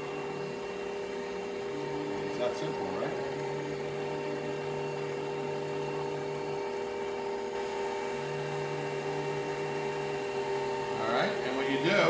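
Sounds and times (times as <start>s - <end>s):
stand mixer running: 0.0s - 12.0s.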